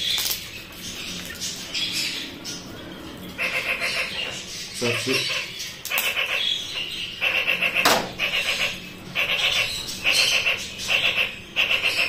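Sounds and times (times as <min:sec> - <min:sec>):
bird calling: 0:00.2 - 0:12.0.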